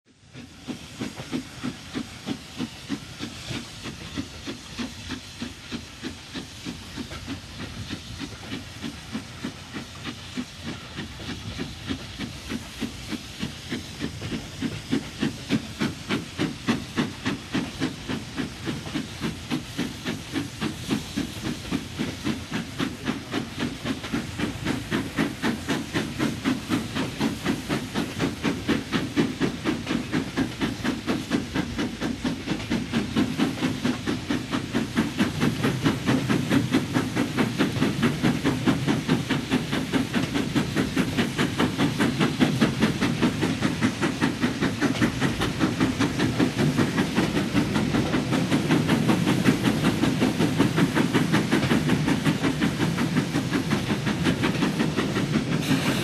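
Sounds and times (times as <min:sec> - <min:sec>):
hissing steam: 0:00.0 - 0:56.0
steam locomotive chuffing: 0:00.1 - 0:56.0.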